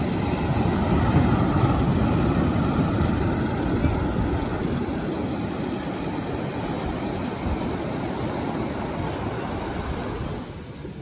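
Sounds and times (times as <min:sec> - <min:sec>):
sea surf washing onto beach: 0:00.0 - 0:11.0.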